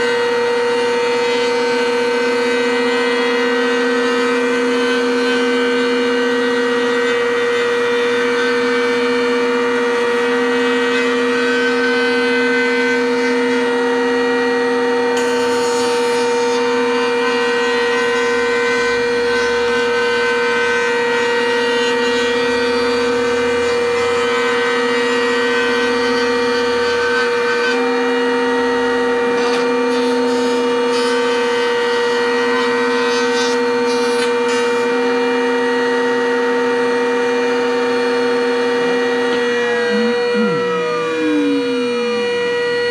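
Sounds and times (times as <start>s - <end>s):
electric router cutting acrylic: 0.0s - 42.9s.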